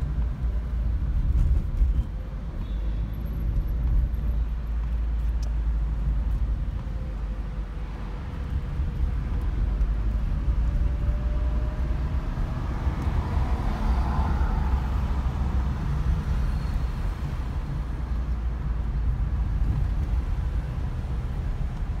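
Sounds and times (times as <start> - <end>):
car engine and tyres rumbling: 0.0 - 22.0
faint traffic: 0.0 - 22.0.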